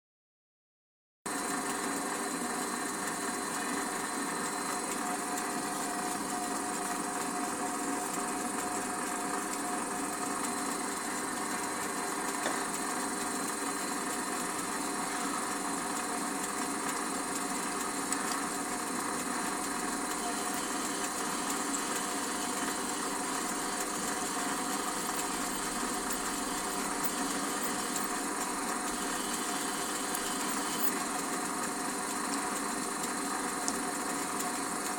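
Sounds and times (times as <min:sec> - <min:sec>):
lathe whining while drilling: 0:01.4 - 0:34.9.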